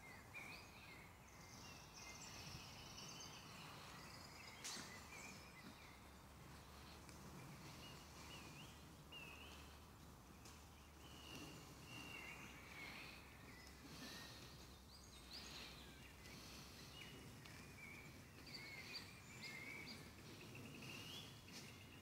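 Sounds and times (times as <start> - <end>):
songbirds warbling and chirping: 0.0 - 22.0.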